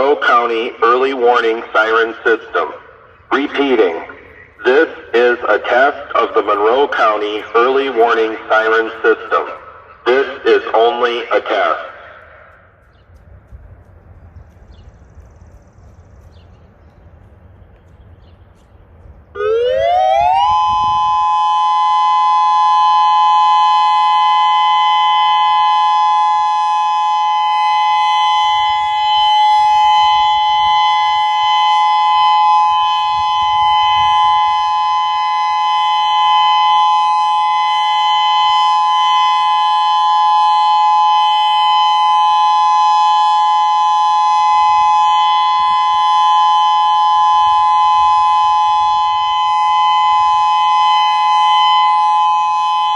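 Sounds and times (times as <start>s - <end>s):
outdoor warning siren: 0.0s - 52.9s.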